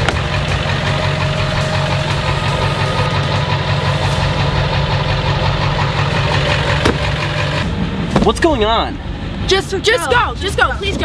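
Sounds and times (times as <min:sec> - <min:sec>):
truck engine idling: 0:00.0 - 0:10.6.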